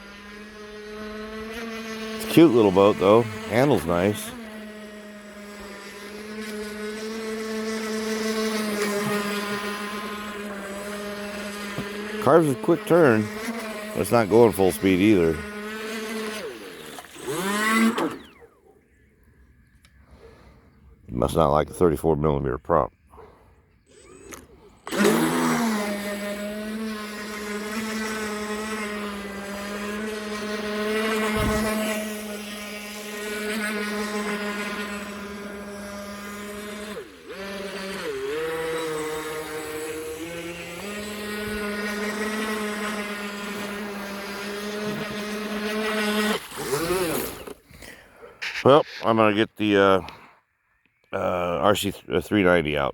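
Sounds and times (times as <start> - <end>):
rc boat motor whine: 0.0 - 50.2.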